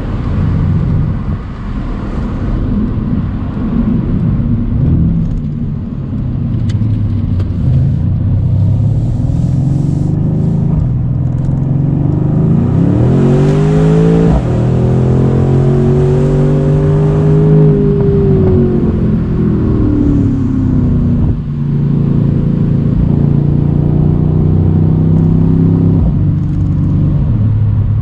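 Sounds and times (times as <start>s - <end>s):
car engine accelerating: 4.2s - 28.0s.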